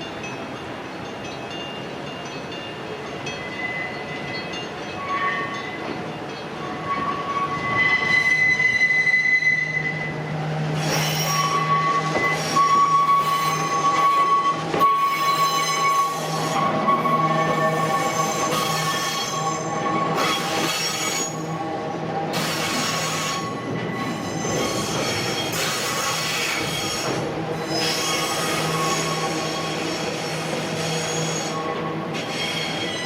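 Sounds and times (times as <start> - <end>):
train wheels squealing on rails: 0.1 - 33.0.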